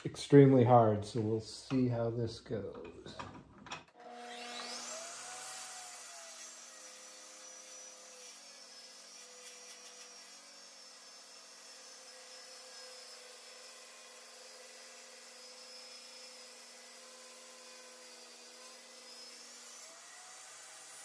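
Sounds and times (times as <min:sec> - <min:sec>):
table saw motor whining: 0:04.0 - 0:21.0.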